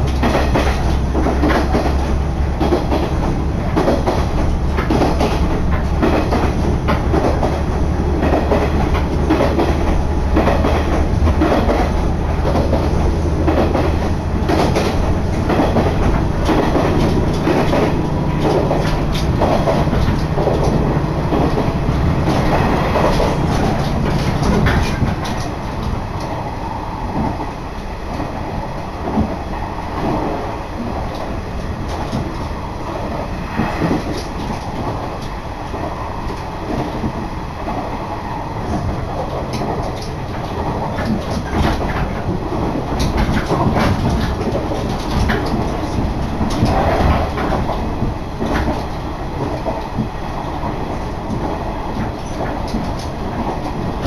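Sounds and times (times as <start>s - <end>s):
wheel clatter over rail joints: 0.0s - 28.4s, 29.0s - 54.0s
railcar engine drone: 0.0s - 54.0s.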